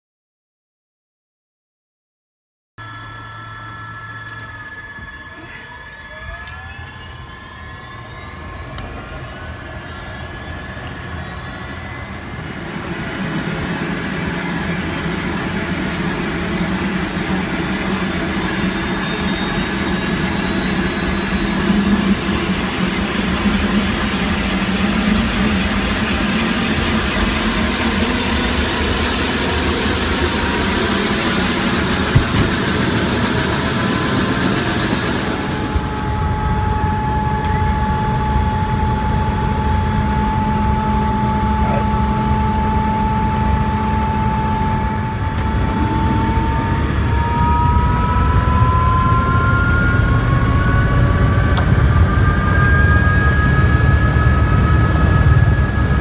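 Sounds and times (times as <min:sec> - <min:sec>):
helicopter turbine whine: 0:02.8 - 0:56.0
low rotor hum: 0:02.8 - 0:56.0.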